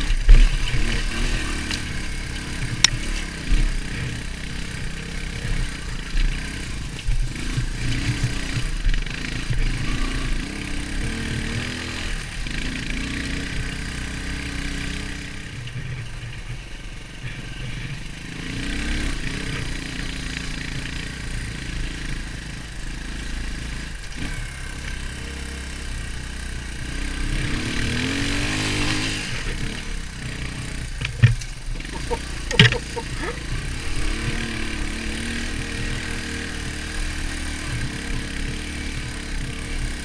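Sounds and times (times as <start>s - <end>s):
dirt bike engine revving: 0.0s - 15.9s, 17.2s - 40.0s.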